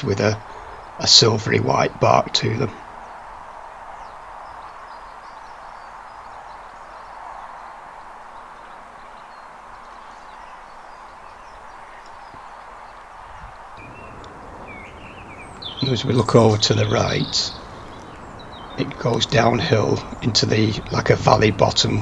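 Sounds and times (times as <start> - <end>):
faint bird chirps: 0.0 - 22.0
outdoor background hiss: 0.0 - 22.0.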